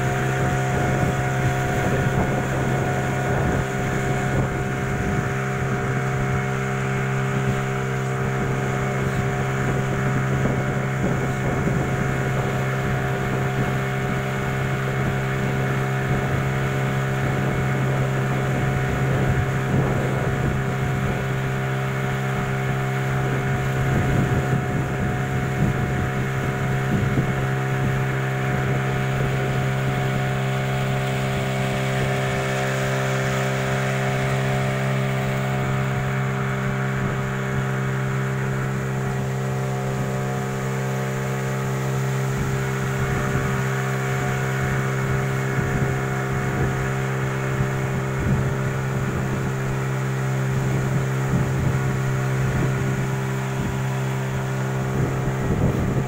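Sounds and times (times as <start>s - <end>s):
boat motor running: 0.0s - 56.0s.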